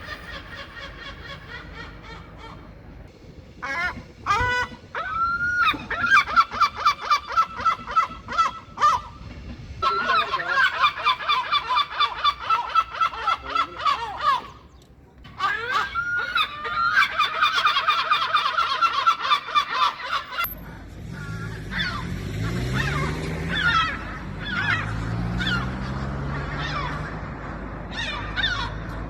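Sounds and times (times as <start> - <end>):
gulls calling: 0.0 - 29.0.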